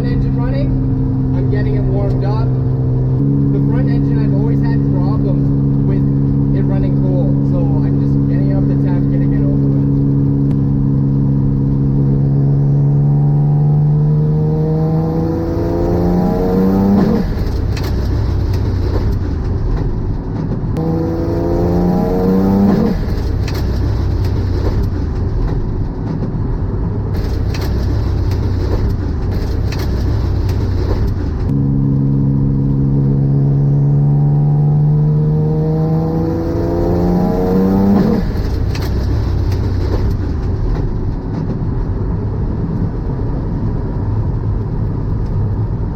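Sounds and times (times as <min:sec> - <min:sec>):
car engine accelerating: 0:00.0 - 0:45.9
road noise: 0:00.0 - 0:45.9.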